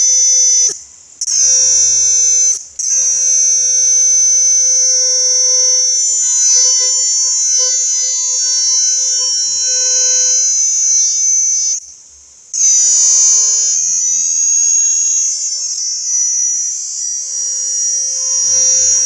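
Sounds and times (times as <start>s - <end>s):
cicada buzzing: 0.0s - 19.0s.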